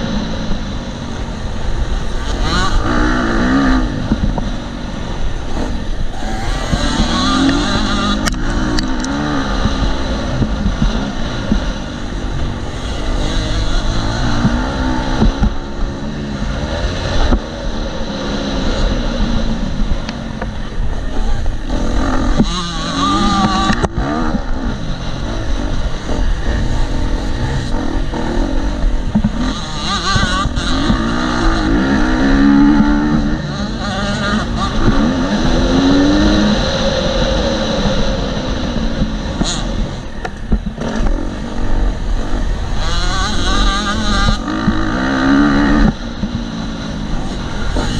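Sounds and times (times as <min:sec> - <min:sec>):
motocross bike engine revving: 0:00.0 - 0:47.9
wind rushing on microphone: 0:00.0 - 0:47.9.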